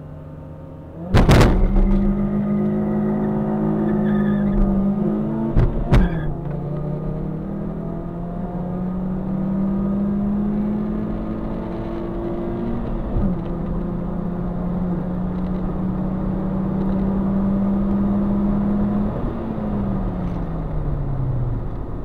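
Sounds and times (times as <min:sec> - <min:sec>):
car engine at high revs: 0:00.0 - 0:22.0
road and tyre noise: 0:00.0 - 0:22.0.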